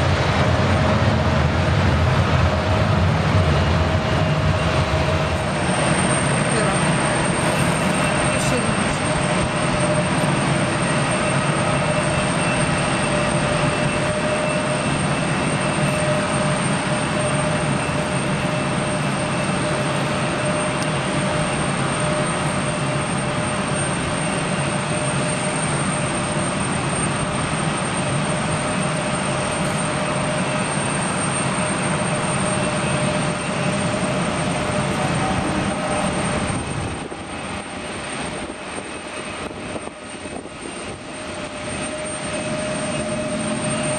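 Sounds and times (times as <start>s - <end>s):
airport noise roar: 0.0s - 43.9s
constant droning hum: 0.0s - 43.9s.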